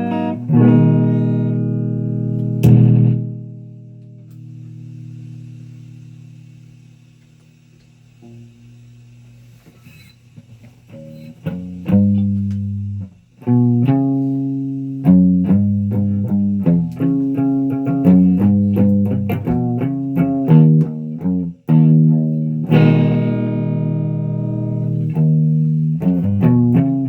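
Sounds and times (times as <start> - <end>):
electric guitar riff: 0.0 - 6.5, 10.9 - 27.0.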